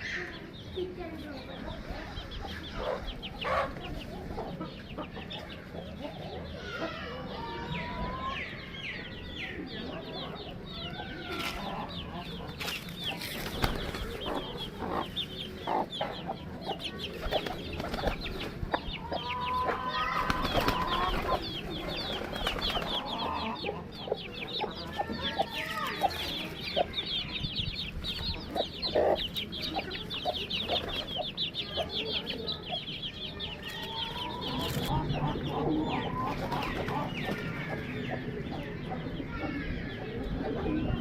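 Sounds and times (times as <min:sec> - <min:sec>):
chickens clucking: 0:00.0 - 0:41.0
chicks chirping: 0:00.0 - 0:41.0.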